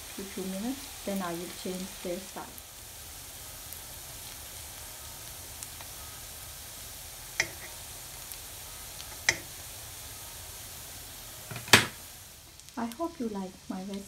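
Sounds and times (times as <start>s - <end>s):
kebabs sizzling in oil: 0.0s - 14.0s.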